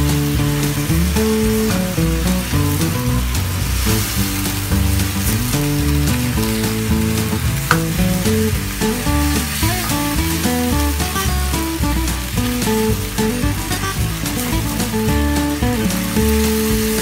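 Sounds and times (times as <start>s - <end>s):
background music with bass: 0.0s - 17.0s
chicken sizzling in a wok: 0.0s - 17.0s.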